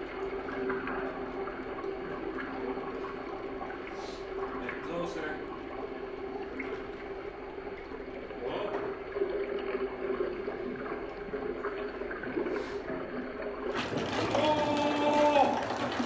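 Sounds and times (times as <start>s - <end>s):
water draining from toilet bowl: 0.0s - 16.0s.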